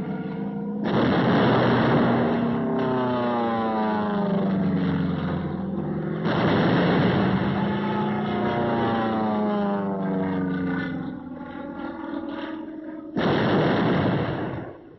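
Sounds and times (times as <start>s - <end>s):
propeller plane engines droning: 0.0s - 14.9s.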